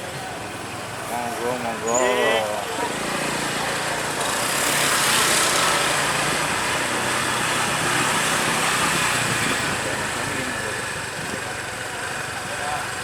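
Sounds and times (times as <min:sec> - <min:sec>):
small engines running: 0:00.0 - 0:13.0.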